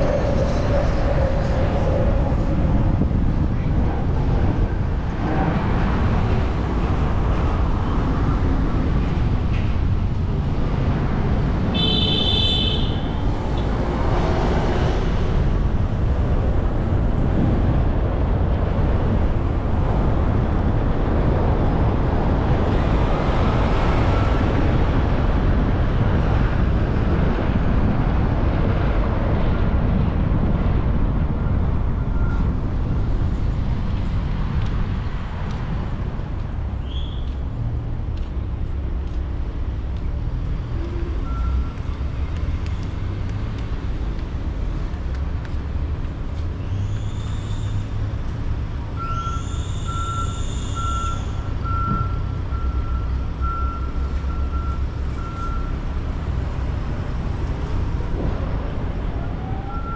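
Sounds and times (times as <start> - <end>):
car road and tyre noise: 0.0 - 59.9.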